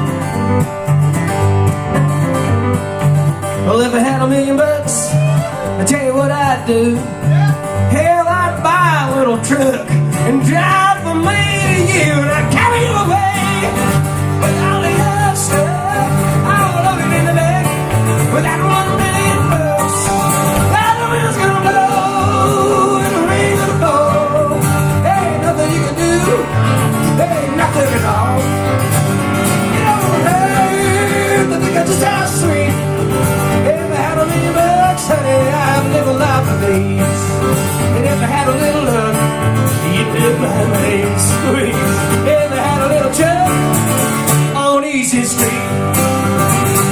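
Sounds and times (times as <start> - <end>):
country band playing live: 0.0 - 46.9.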